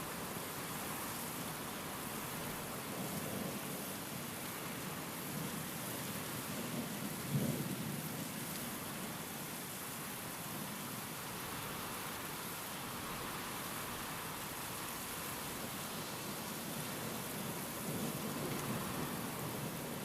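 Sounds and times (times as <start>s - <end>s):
rain and wind hiss: 0.0s - 20.0s.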